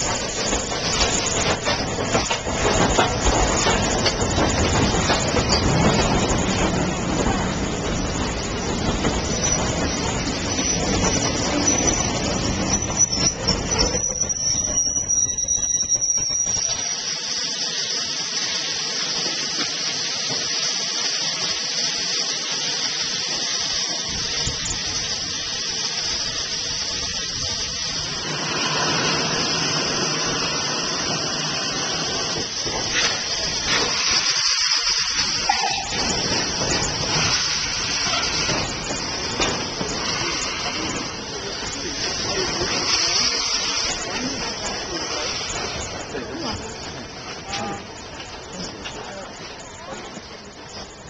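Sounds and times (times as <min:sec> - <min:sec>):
steam hissing from locomotive: 0:00.0 - 0:51.0.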